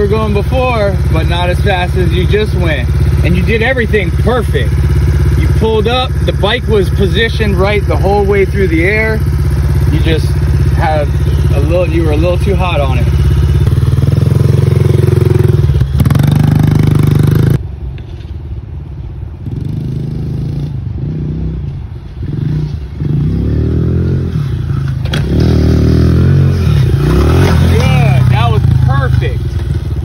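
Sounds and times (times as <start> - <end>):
pit bike engine revving: 0.0 - 17.6, 19.5 - 30.0.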